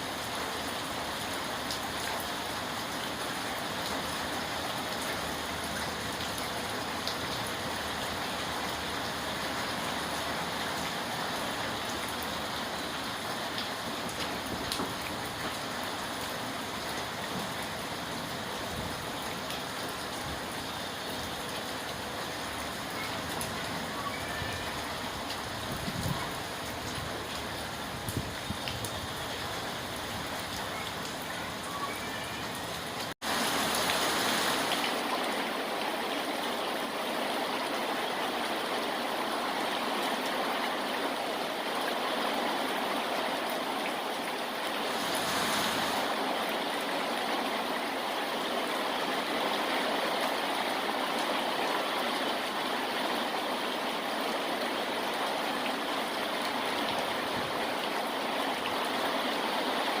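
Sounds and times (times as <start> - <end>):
rushing water: 0.0 - 60.0.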